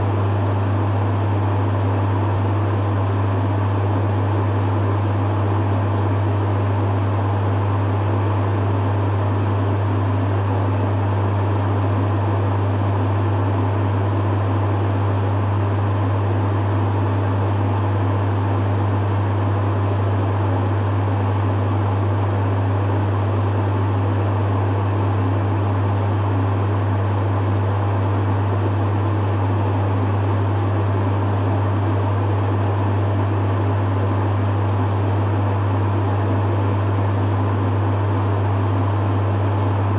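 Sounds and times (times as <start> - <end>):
dehumidifier humming: 0.0 - 39.9.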